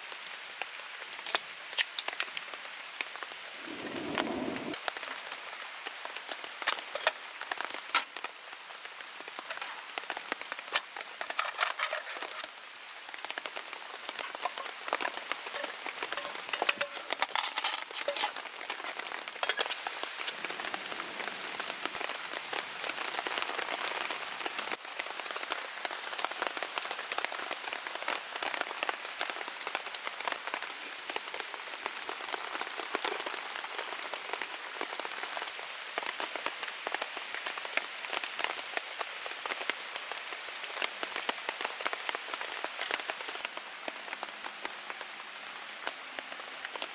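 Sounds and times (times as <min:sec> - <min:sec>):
rain pattering on a surface: 0:00.0 - 0:46.9.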